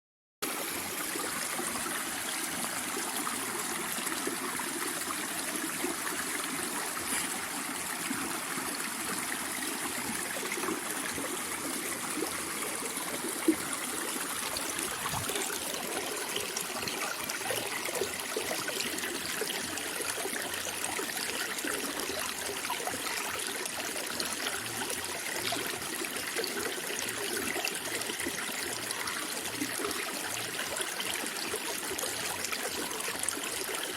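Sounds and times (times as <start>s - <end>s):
water flowing and trickling: 0.4s - 33.9s.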